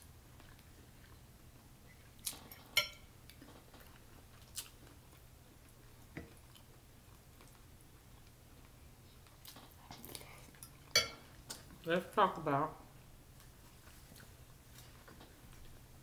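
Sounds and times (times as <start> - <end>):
soft chewing: 0.1 - 11.9, 12.9 - 16.0.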